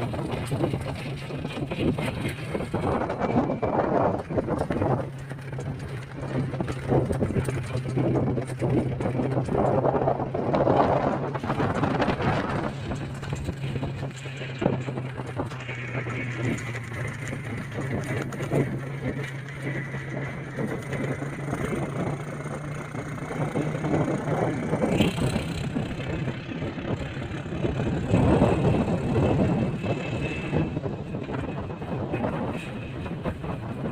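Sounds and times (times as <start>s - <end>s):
road noise: 0.0s - 33.9s
rumbling: 0.0s - 33.9s
vehicle engine humming: 0.0s - 33.9s.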